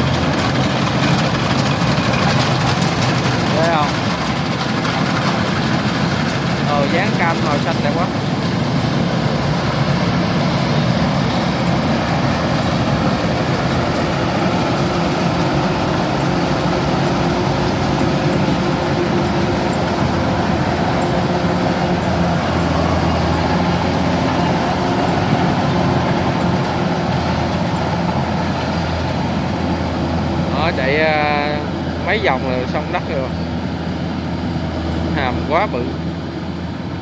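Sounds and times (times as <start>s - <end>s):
cutting and threshing machinery: 0.0s - 33.4s
combine harvester engine drone: 0.0s - 37.0s.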